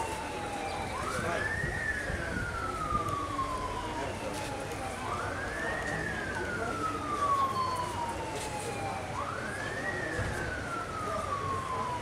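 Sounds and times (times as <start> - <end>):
crowd noise: 0.0 - 12.0
siren wailing: 0.0 - 12.0.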